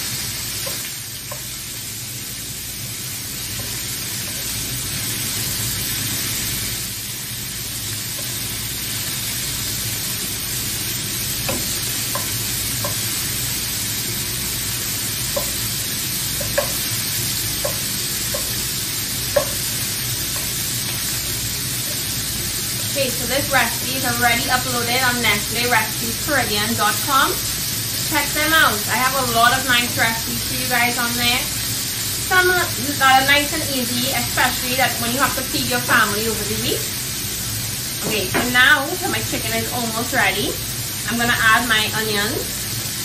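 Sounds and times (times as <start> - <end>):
food sizzling in hot oil: 0.0 - 43.0.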